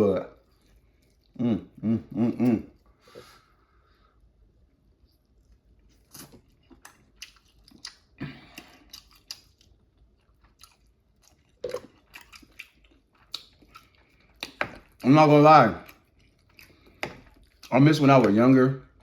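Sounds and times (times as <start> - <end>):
close chewing and mouth smacks: 0.3 - 1.5, 4.6 - 19.0.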